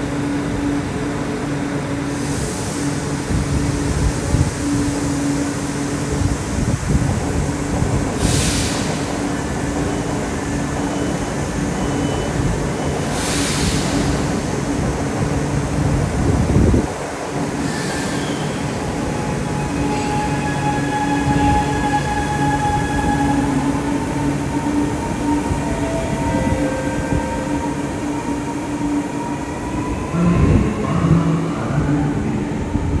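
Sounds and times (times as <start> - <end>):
electric train rolling: 0.0 - 33.0.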